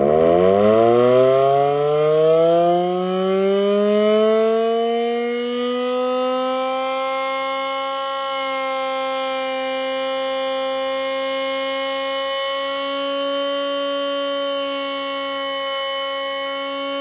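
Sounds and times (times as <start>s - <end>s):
siren winding up: 0.0s - 17.0s.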